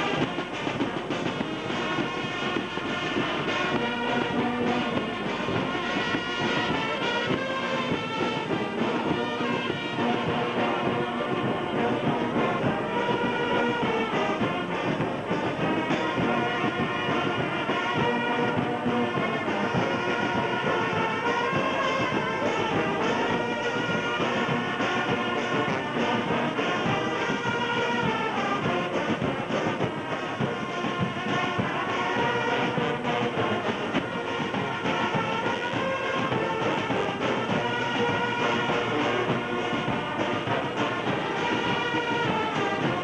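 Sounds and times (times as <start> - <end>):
brass band playing: 0.0 - 43.0.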